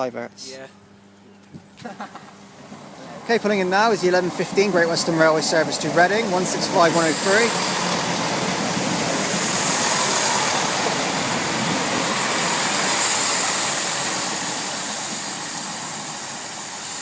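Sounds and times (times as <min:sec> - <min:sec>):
high hiss: 0:01.8 - 0:17.0
diesel train engine slowing: 0:02.0 - 0:17.0.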